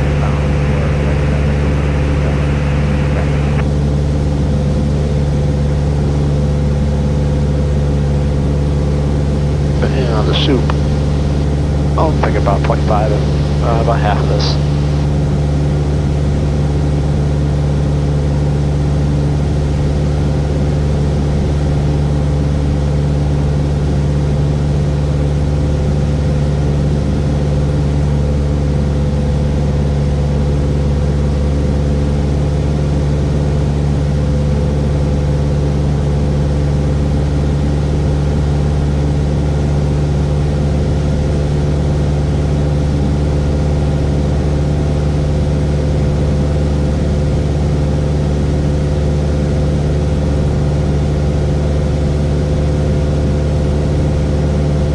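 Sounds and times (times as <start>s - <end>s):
light aircraft engine and propeller droning: 0.0s - 54.9s.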